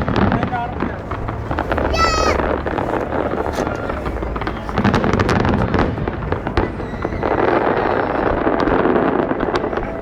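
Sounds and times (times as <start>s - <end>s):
fireworks bangs and cracks: 0.0s - 10.0s
fireworks crackling: 0.0s - 10.0s.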